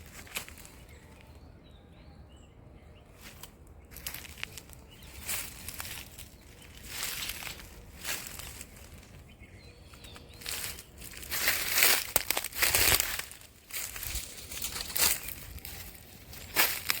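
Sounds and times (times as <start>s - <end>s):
rustling crunching noise: 0.0s - 1.1s, 3.1s - 17.0s.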